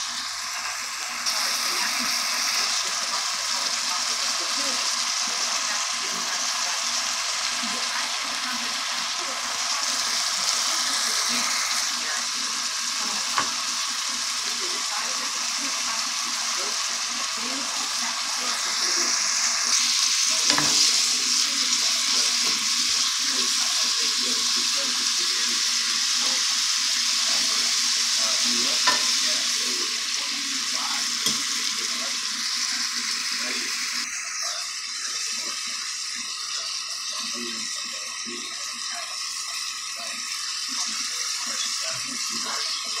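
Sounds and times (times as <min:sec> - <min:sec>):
onions sizzling in a pot: 0:00.0 - 0:43.0.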